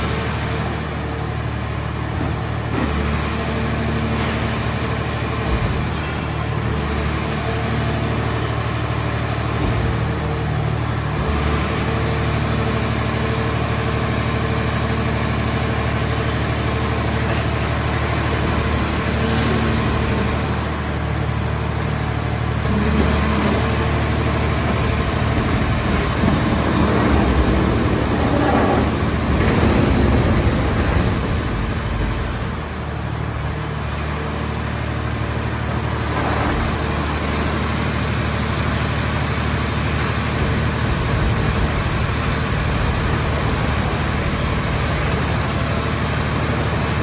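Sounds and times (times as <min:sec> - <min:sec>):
baler engine and hydraulics running: 0:00.0 - 0:47.0.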